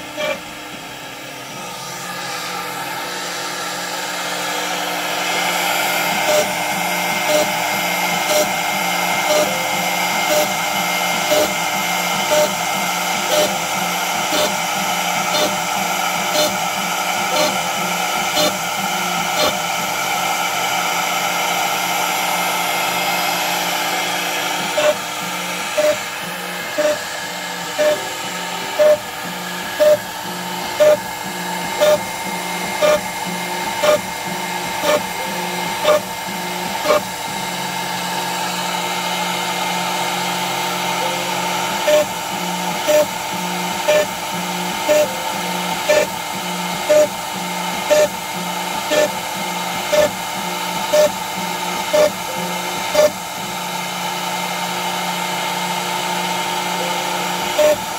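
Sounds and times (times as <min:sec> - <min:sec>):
end mill cutting wood: 0:00.0 - 0:57.9
router spindle whine: 0:00.0 - 0:57.9.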